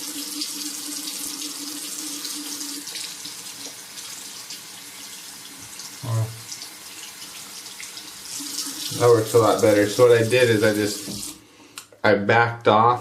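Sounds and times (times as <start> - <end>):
tap water running into a sink: 0.0 - 11.4.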